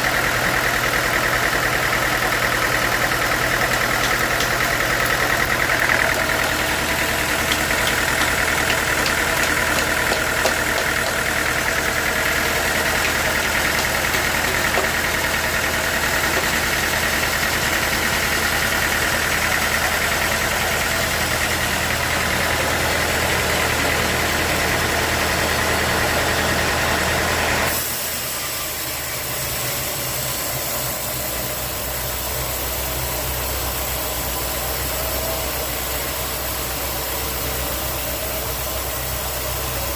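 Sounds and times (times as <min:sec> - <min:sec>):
sawmill band saw running: 0:00.0 - 0:39.9
steady motor hum: 0:00.0 - 0:39.9.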